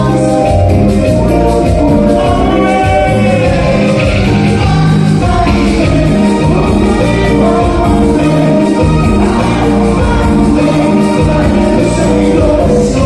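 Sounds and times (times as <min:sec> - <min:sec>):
band music with singing: 0:00.0 - 0:13.0
percussion beat: 0:00.0 - 0:13.0.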